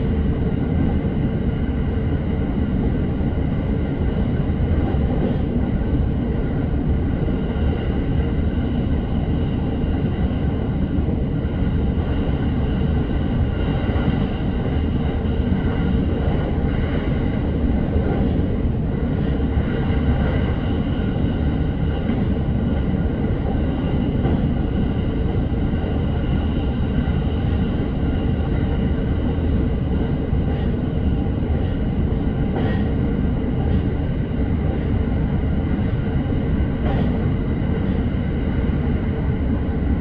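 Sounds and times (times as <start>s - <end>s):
faint train whine: 0.0s - 40.0s
train rolling rumble: 0.0s - 40.0s.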